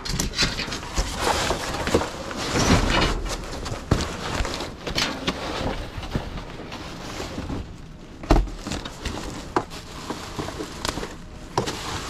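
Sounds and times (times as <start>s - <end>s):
clatter and rustling in dumpster: 0.0s - 12.0s.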